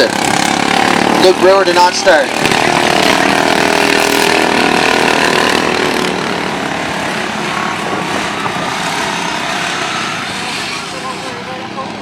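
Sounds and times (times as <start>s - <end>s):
racing lawn mower engines: 0.0s - 12.0s.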